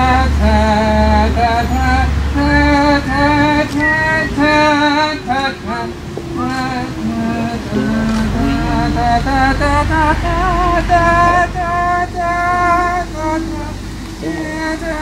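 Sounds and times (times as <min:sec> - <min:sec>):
melodicas playing a tune: 0:00.0 - 0:15.0.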